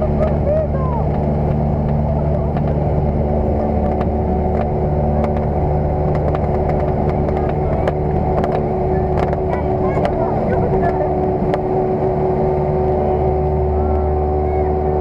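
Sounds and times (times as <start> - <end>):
light aircraft engine running: 0.0 - 15.0.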